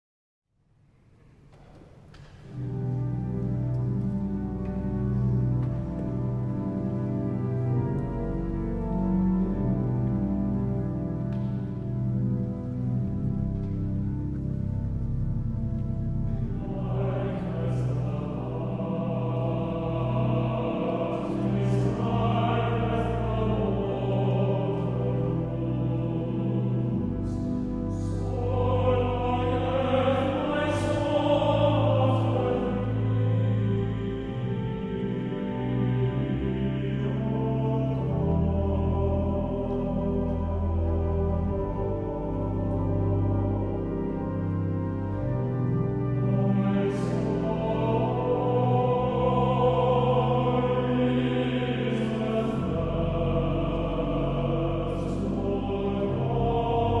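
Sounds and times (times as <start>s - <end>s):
slow choral music: 0.7s - 57.0s
choir singing sustained notes: 2.2s - 57.0s.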